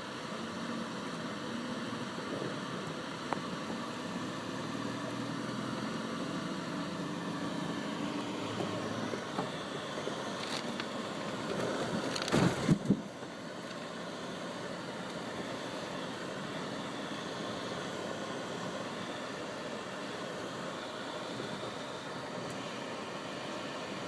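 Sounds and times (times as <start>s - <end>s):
engine hum and tyre rumble: 0.0s - 24.0s.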